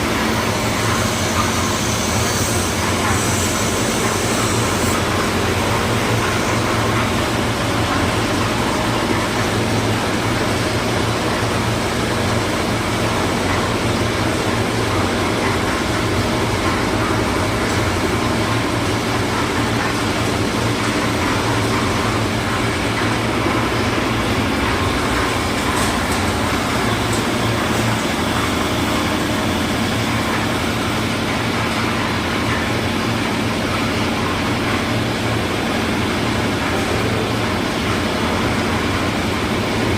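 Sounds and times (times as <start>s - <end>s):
concrete mixer engine humming: 0.0s - 39.9s.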